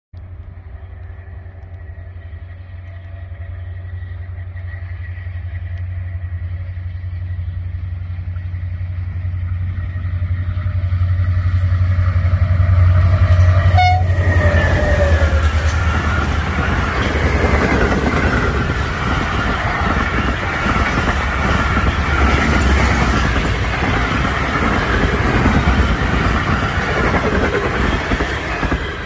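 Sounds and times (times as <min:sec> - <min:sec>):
diesel locomotive engine rumble: 0:00.2 - 0:29.0.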